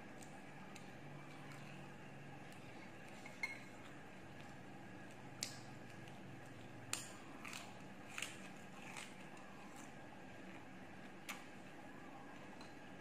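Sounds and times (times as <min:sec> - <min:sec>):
crunching of chewing: 0:00.1 - 0:11.8.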